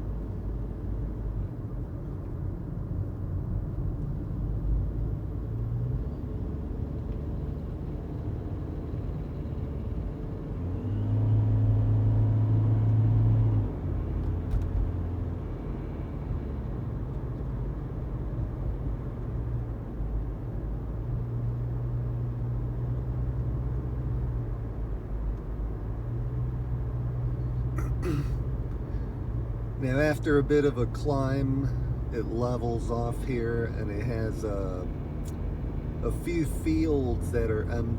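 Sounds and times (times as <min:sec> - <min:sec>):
low engine hum: 0:00.0 - 0:37.9
road rumble: 0:00.0 - 0:37.9.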